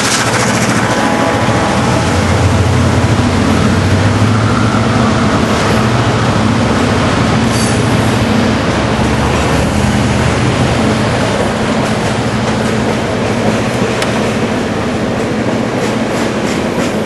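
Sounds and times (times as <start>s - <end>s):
locomotive engine drone: 0.0s - 17.0s
rumble of train wheels: 0.0s - 17.0s.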